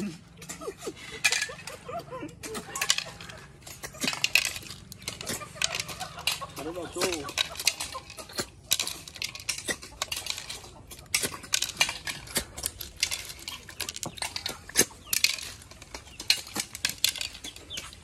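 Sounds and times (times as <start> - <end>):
snail shells clinking on steel plates: 0.3 - 18.0.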